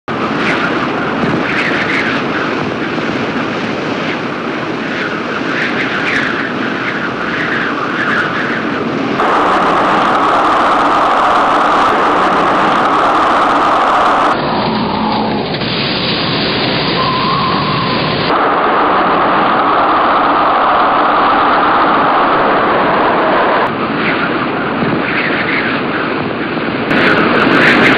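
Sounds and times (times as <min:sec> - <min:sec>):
tornado winds rushing: 0:00.0 - 0:27.9.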